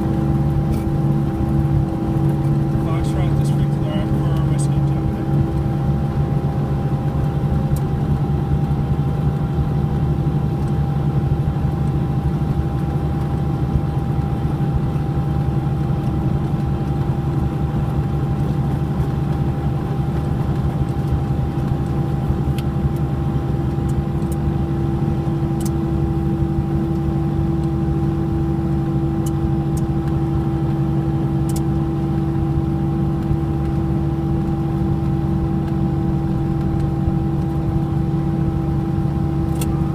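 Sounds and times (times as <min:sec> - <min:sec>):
piston aircraft engines droning: 0:00.0 - 0:39.9.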